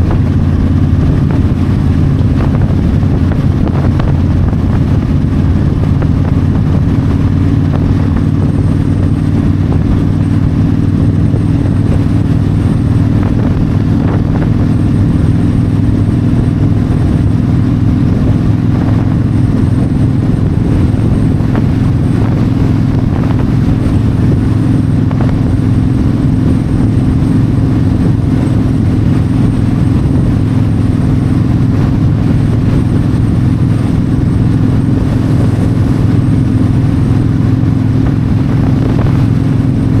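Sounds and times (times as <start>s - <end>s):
motorcycle engine cruising: 0.0s - 40.0s
wind rushing: 0.0s - 40.0s.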